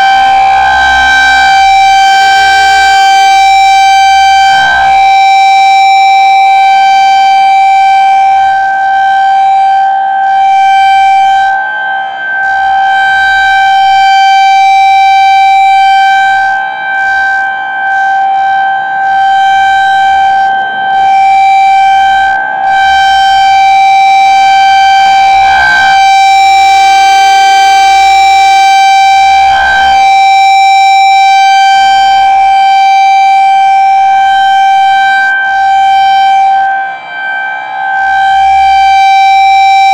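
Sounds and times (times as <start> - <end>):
high-pitched warning siren: 0.0 - 39.9.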